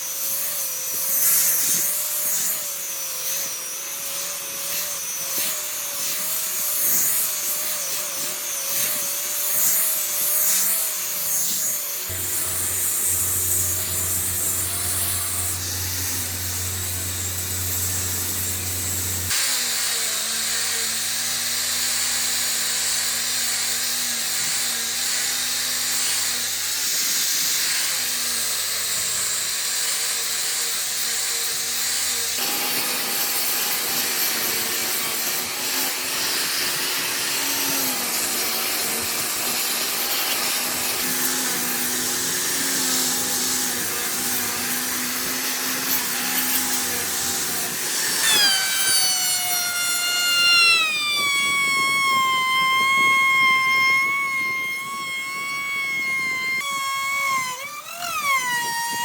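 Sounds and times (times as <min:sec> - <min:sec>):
power tool whirring on wood: 0:00.0 - 0:59.0.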